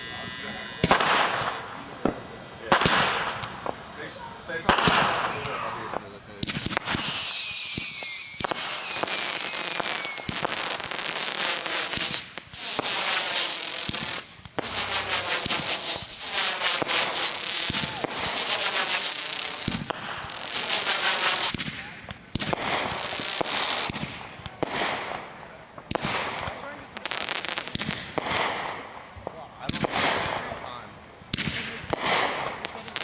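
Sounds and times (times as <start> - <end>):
firework whistles: 0.0 - 3.9, 4.6 - 25.3, 25.9 - 33.0
fireworks crackling and popping: 0.8 - 33.0.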